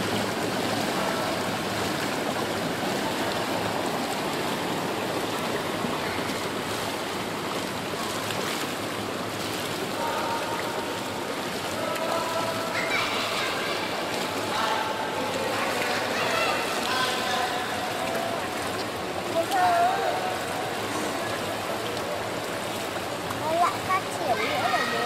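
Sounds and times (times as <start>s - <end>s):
pool water splashing: 0.0s - 25.0s.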